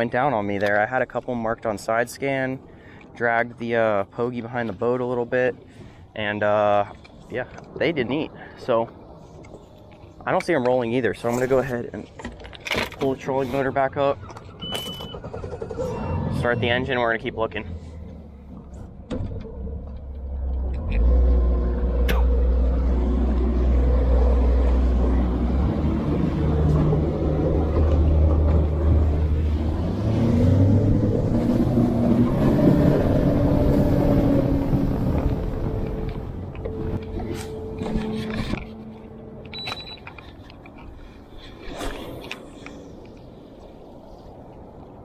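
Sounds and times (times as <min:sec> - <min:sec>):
wind: 0:00.0 - 0:45.0.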